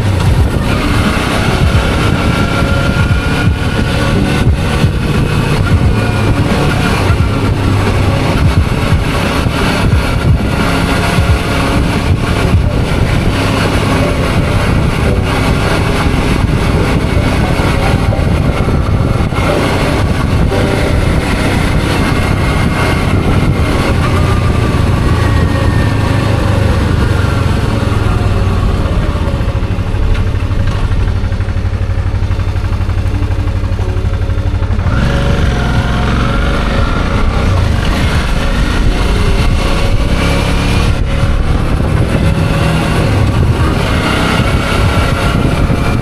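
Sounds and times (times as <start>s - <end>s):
motorcycle engine running: 0.0s - 46.0s
wind noise on microphone: 0.0s - 46.0s.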